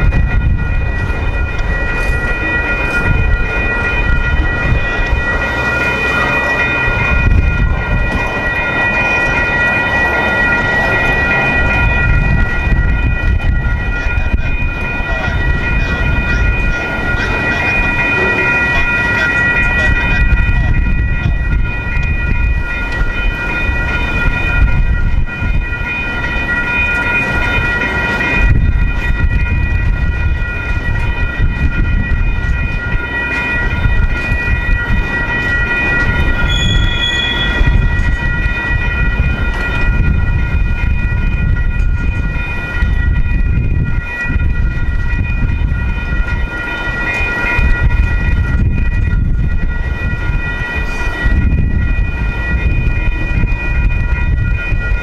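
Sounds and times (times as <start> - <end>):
freight trains rumbling past: 0.0 - 55.0
railroad crossing bell ringing: 0.0 - 55.0.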